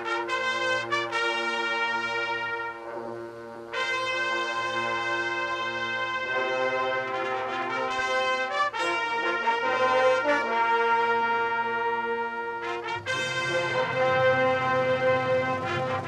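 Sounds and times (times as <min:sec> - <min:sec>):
brass band playing held chords: 0:00.0 - 0:16.0.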